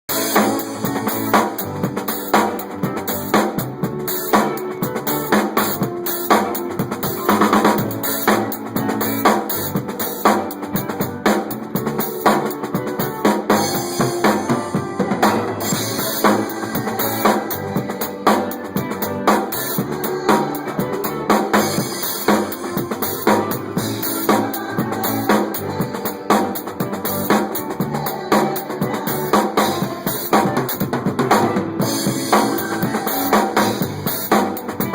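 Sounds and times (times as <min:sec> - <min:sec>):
drum kit groove: 0:00.0 - 0:34.9.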